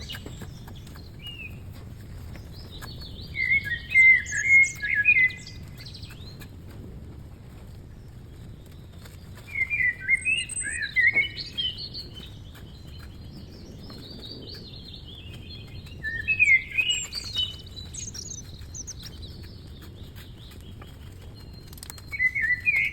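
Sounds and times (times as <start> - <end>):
songbird chirping: 0.0 - 22.9.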